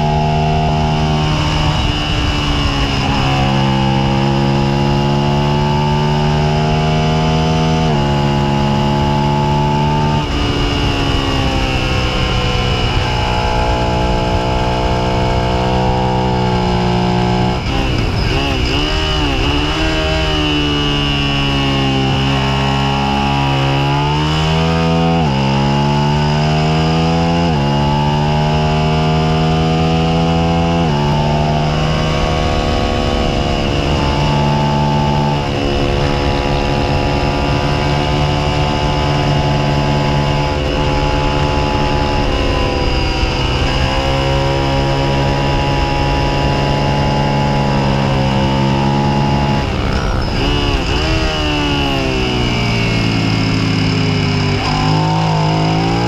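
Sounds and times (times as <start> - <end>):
wind rush: 0.0 - 21.5, 31.6 - 56.0
motorcycle engine revving: 0.0 - 56.0.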